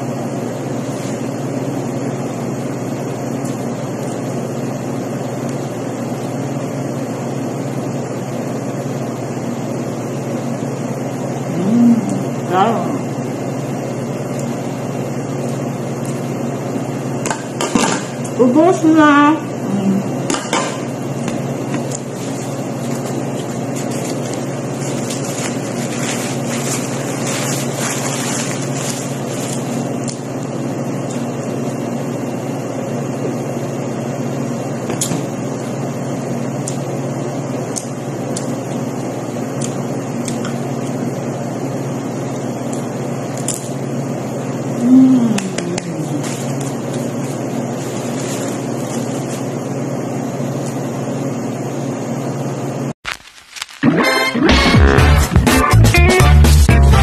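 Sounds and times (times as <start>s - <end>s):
air conditioner hum and hiss: 0.0s - 52.9s.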